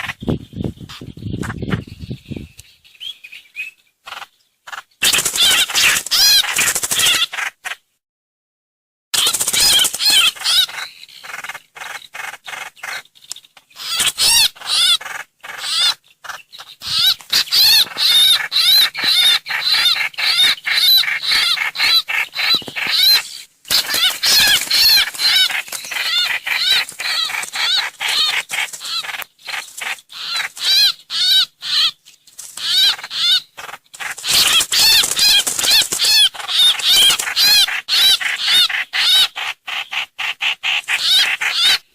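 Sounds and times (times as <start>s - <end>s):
bird chattering calls: 0.0s - 7.8s, 9.2s - 41.9s.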